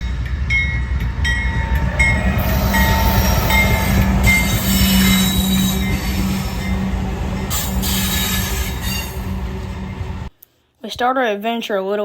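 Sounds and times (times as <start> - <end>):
train rumbling past: 0.0 - 10.3
wheels squealing on rails: 0.0 - 10.3.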